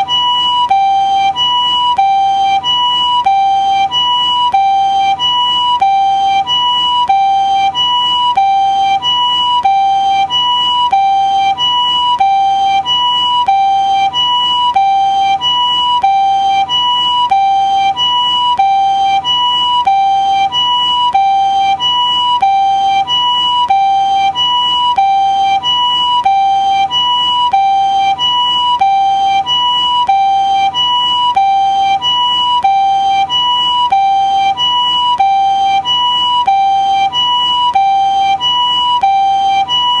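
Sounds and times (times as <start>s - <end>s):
ambulance siren two-tone call: 0.0s - 40.0s.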